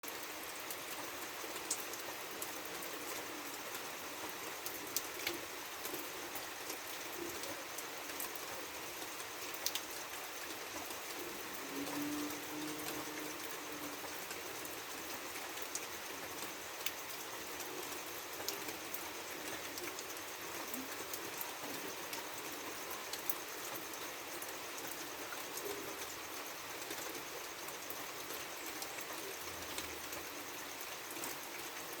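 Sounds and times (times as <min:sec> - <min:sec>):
heavy rain on a tile roof: 0:00.0 - 0:32.0.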